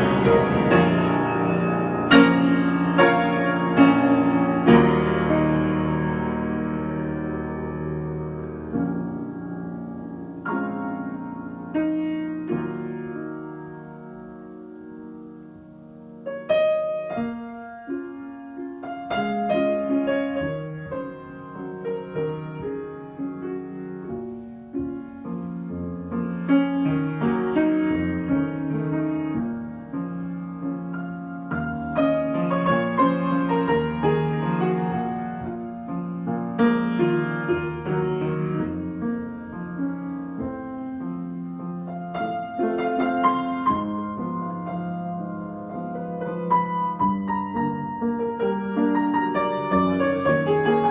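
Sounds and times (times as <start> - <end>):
solo piano: 0.0 - 50.9.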